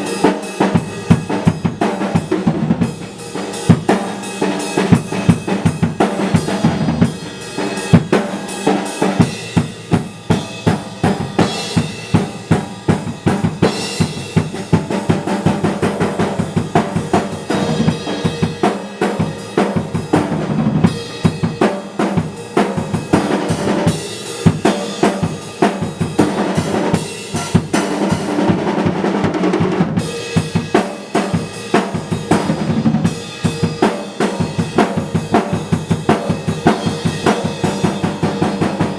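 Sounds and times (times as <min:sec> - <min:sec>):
drum kit playing fast groove: 0:00.0 - 0:38.9.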